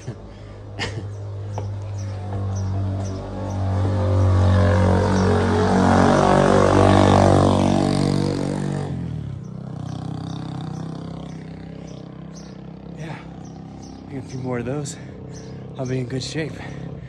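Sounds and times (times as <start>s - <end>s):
quieter engine running: 0.0s - 17.0s
vehicle engine passing by: 0.1s - 17.0s.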